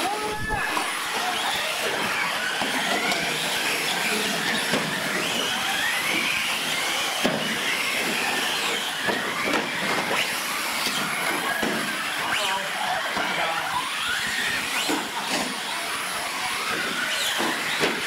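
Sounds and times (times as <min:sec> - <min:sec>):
rc truck motors whining: 0:00.0 - 0:18.0.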